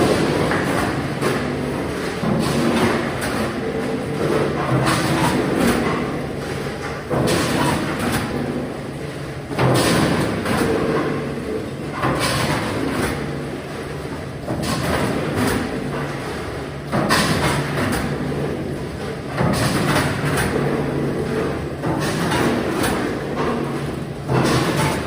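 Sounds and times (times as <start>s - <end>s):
packing machine hum: 0.0s - 25.0s.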